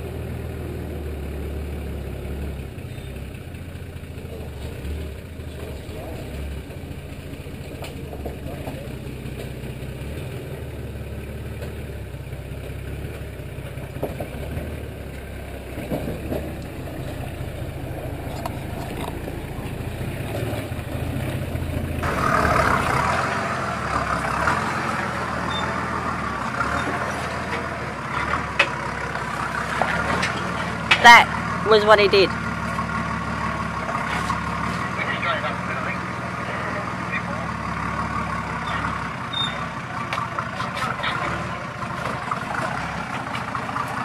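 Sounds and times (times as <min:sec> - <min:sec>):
vehicle engine at low revs: 0:00.0 - 0:44.0.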